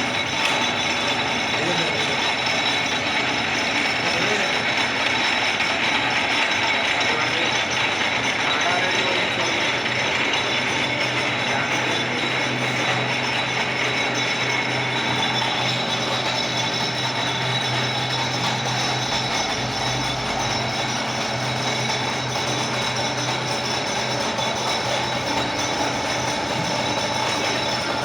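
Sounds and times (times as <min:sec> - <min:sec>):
lathe mechanical clatter: 0:00.0 - 0:28.0
low machine hum: 0:00.0 - 0:28.0
steady high tones: 0:00.0 - 0:28.0.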